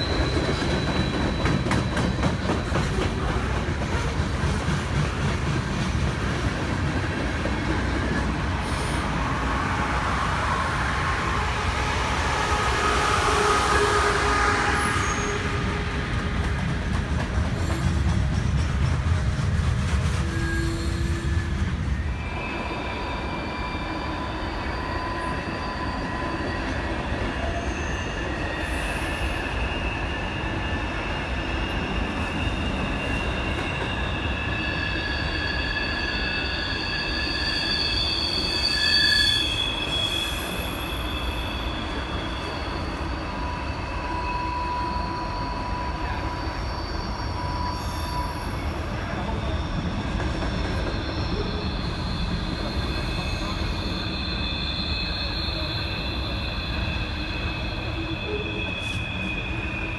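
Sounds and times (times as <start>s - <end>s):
low train rumble: 0.0s - 59.9s
train wheels squealing: 0.0s - 59.9s.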